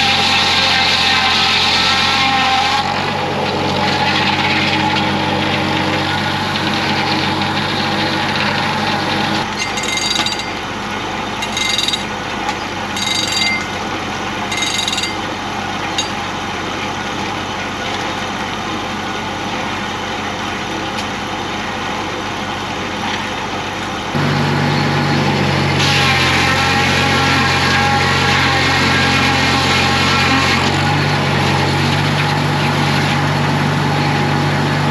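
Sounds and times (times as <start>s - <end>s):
sawmill motor hum: 0.0s - 34.9s.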